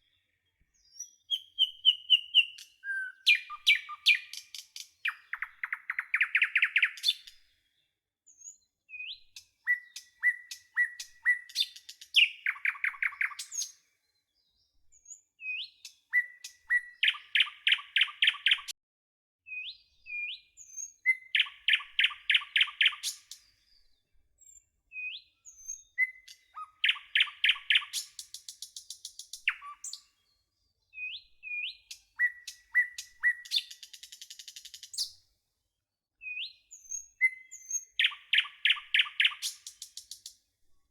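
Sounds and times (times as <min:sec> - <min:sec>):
bird singing chirps and trill: 0:00.1 - 0:18.7, 0:19.5 - 0:35.2, 0:36.2 - 0:40.4.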